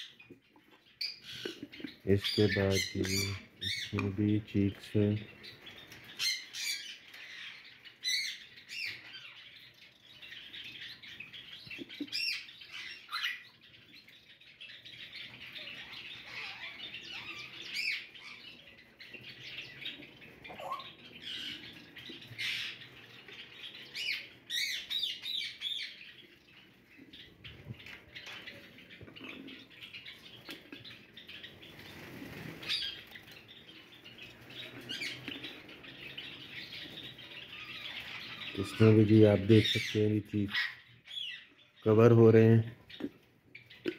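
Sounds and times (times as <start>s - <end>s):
sharp bird calls: 0.0s - 43.9s
sparrows chirping: 0.0s - 43.9s.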